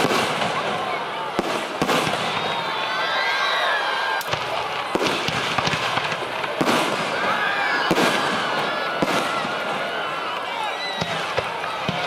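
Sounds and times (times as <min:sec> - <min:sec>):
firework bangs: 0:00.0 - 0:03.2, 0:04.1 - 0:12.0
fireworks crackling and rumbling: 0:00.0 - 0:12.0.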